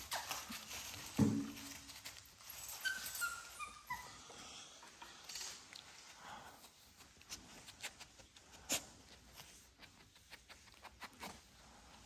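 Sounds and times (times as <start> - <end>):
puppies shuffling: 0.0 - 12.0.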